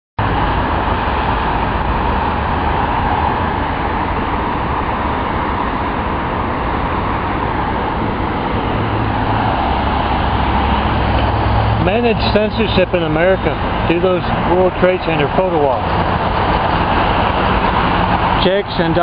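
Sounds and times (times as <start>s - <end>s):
road traffic rumble: 0.2s - 19.0s.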